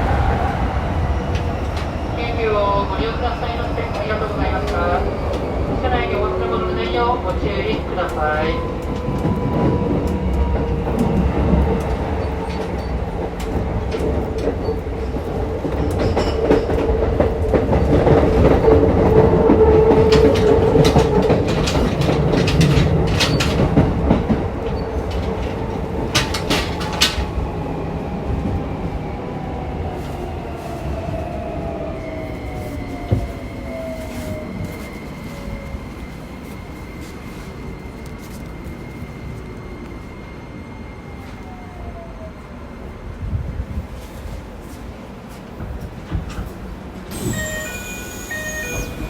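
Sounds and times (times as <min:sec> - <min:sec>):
train wheel and motor noise: 0:00.0 - 0:49.0.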